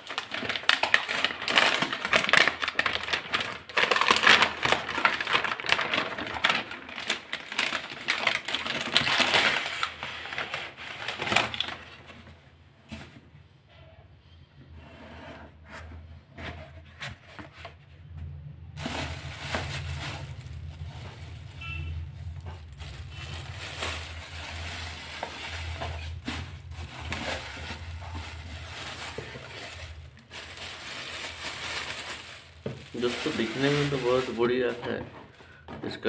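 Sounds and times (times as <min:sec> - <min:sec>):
plastic bag crinkling: 0:00.0 - 0:12.1, 0:18.8 - 0:36.0.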